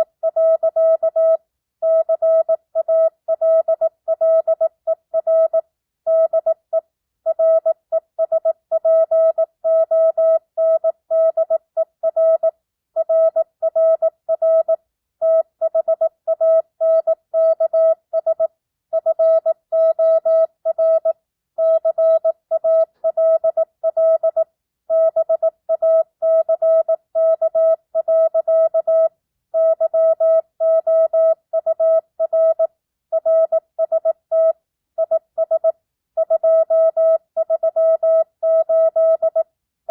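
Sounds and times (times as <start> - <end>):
morse code beeps: 7.3 - 39.4.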